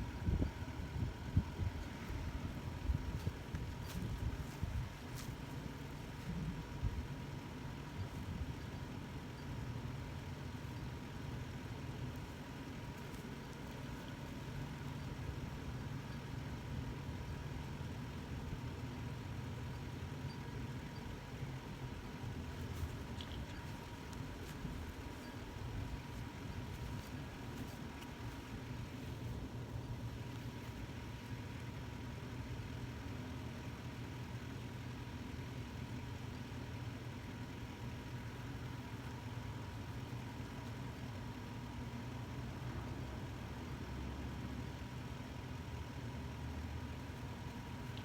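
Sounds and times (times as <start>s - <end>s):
engine idling: 0.0s - 48.0s
faint steady whine: 0.0s - 48.0s.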